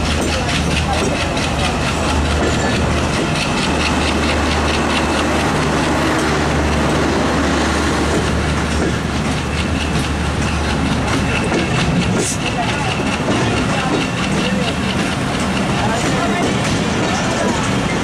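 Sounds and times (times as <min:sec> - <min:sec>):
clickety-clack over rail joints: 0:00.0 - 0:18.0
train wheels rumbling on rails: 0:00.0 - 0:18.0.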